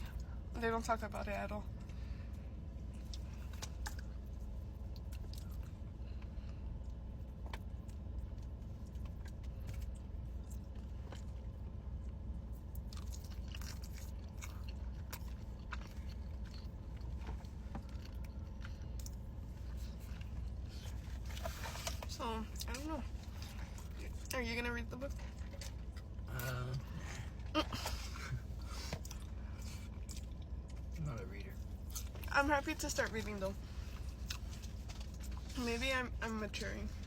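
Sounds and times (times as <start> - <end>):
low hum: 0.0 - 37.0
chewing and biting food: 2.8 - 24.4, 25.1 - 32.4, 33.9 - 35.5.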